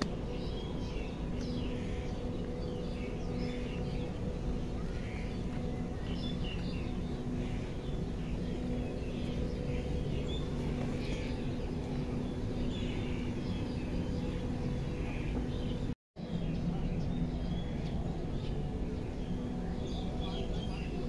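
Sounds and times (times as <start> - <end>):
faint continuous hum: 0.0 - 21.0
low background rumble: 0.0 - 21.0
small birds chirping: 0.0 - 21.0.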